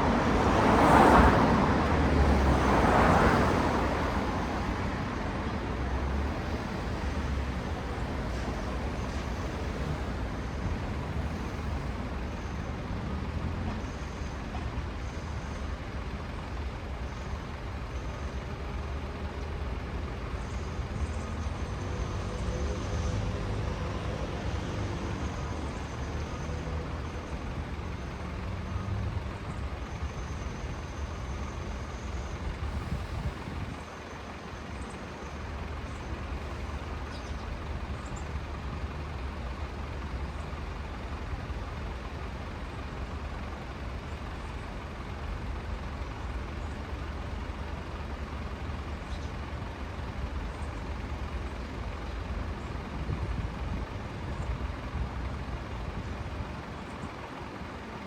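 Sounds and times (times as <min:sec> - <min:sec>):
cars and buses passing: 0:00.0 - 0:58.0.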